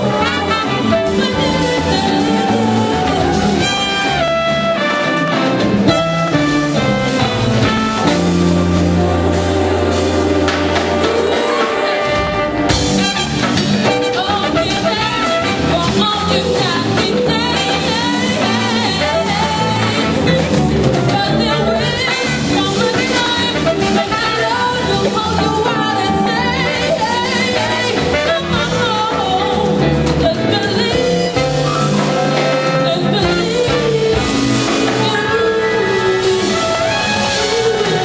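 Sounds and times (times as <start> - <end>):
jazz band playing: 0.0 - 38.0.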